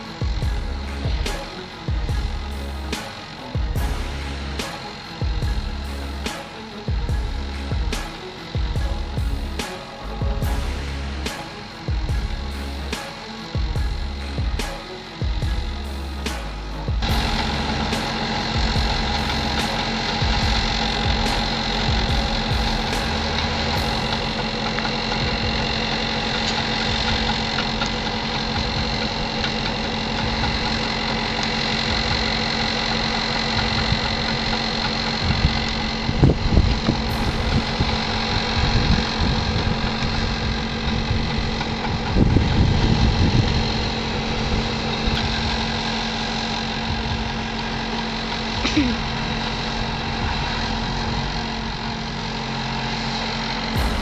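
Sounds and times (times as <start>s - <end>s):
heavy machinery engine running: 0.0s - 54.0s
low thuds and rumbles: 0.2s - 3.0s, 3.6s - 6.3s, 6.9s - 12.9s, 13.6s - 52.0s, 53.8s - 54.0s.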